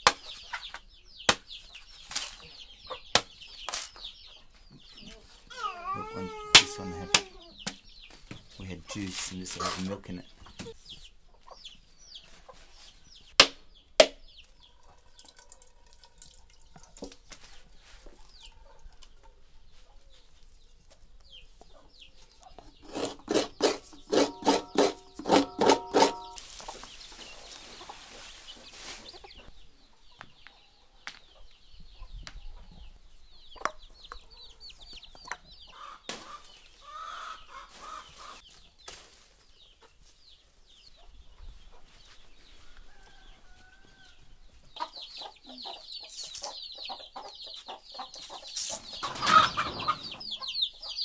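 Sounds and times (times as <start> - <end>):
chickens clucking: 0.1 - 51.0.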